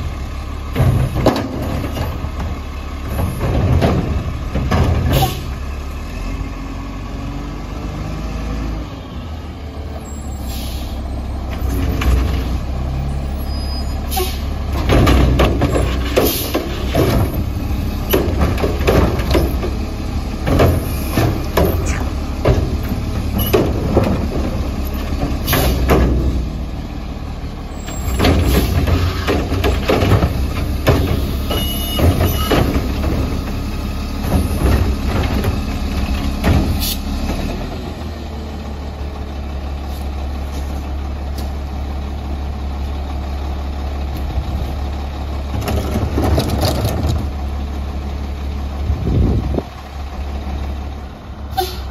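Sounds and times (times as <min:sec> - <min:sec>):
garbage truck engine running: 0:00.0 - 0:51.9.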